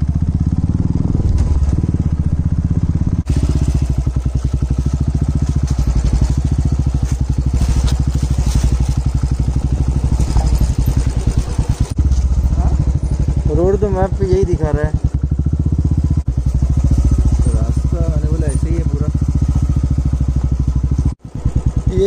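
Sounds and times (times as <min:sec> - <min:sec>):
motorcycle engine thumping: 0:00.0 - 0:22.0.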